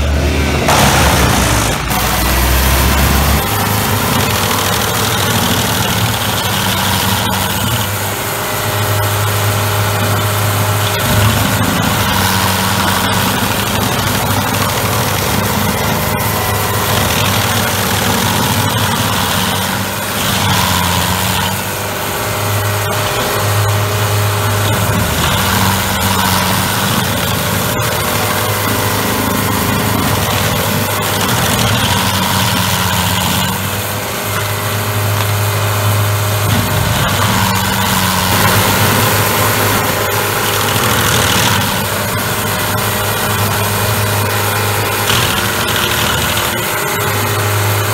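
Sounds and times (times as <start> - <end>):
cutter wheel grinding wood: 0.0 - 47.9
stump grinder engine running: 0.0 - 47.9.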